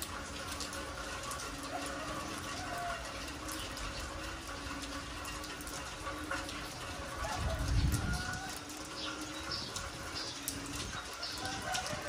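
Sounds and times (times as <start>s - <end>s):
rain falling on concrete: 0.0s - 12.0s.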